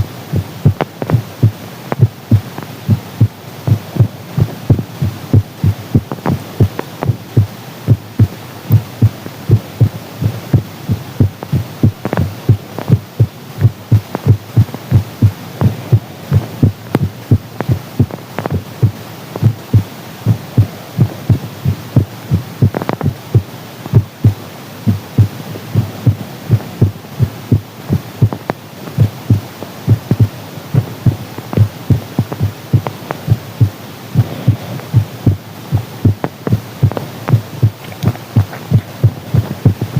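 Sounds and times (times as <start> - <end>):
constant hiss: 0.0 - 39.9
heartbeat thumps: 0.0 - 39.9.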